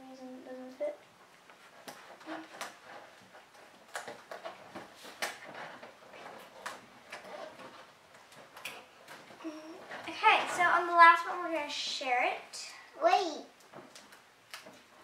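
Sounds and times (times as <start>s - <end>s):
faint rustling: 0.0s - 12.9s.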